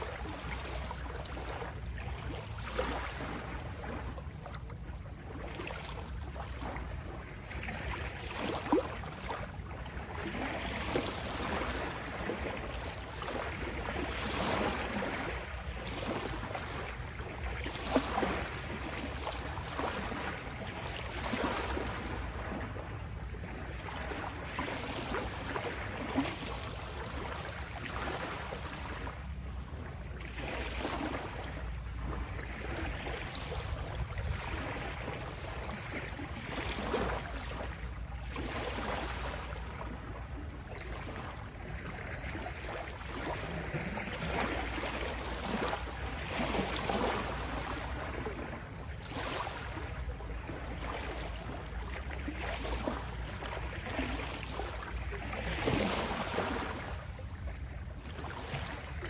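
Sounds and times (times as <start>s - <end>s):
small sea waves lapping: 0.0s - 59.0s.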